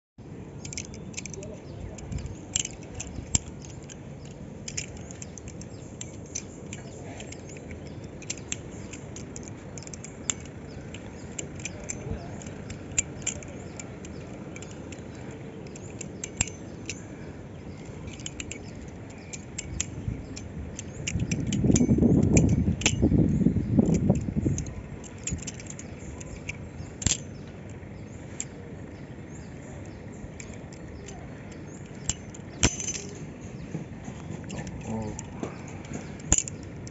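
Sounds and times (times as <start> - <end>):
butterfly knife clacking: 0.6 - 28.6, 29.3 - 36.9.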